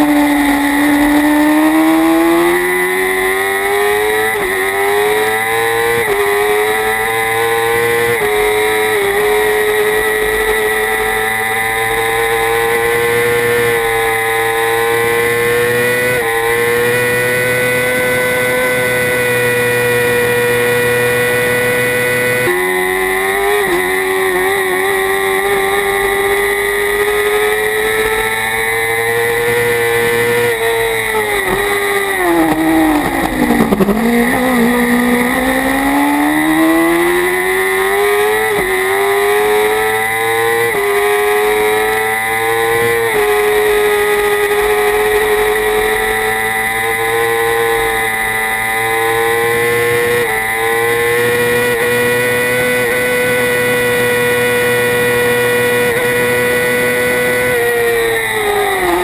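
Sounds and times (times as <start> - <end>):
racing motorcycle engine at high revs: 0.0 - 59.0.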